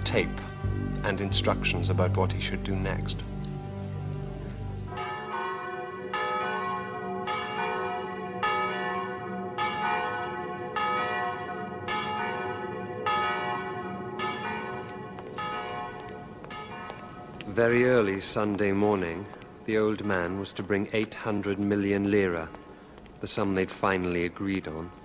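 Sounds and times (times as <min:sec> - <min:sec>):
church bell tolling: 0:00.0 - 0:03.9, 0:04.7 - 0:22.8.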